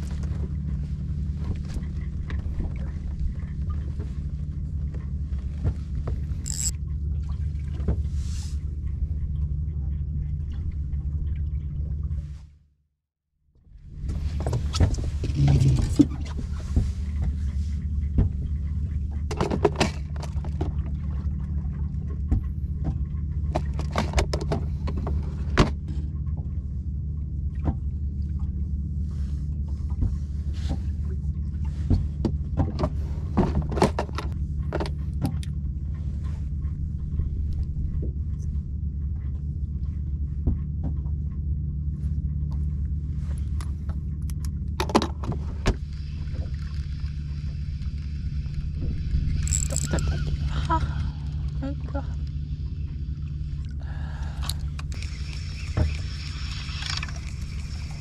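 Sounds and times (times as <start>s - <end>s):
outboard motor running: 0.0s - 12.5s, 13.5s - 58.0s.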